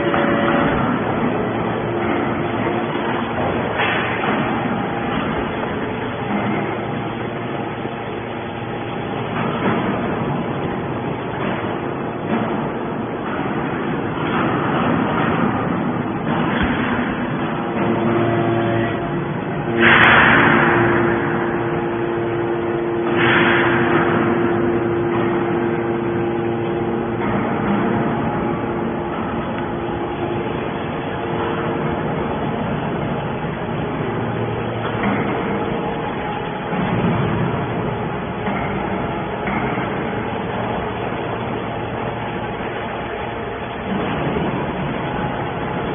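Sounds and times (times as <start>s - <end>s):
baler machine running: 0.0s - 45.9s.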